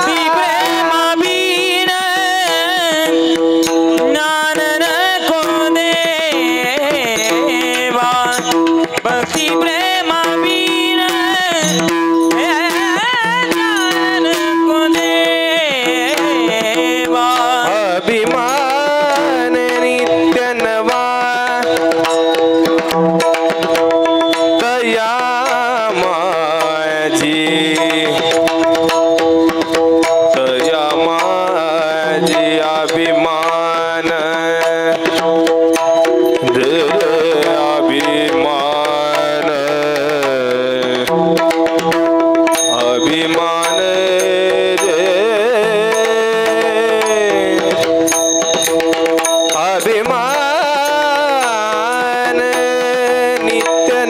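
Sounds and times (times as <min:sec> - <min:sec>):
drum strokes: 0:00.0 - 0:54.0
person singing long ornamented notes: 0:00.0 - 0:54.0
sharp rhythmic clicks: 0:00.0 - 0:54.0
sustained accompaniment: 0:00.0 - 0:54.0.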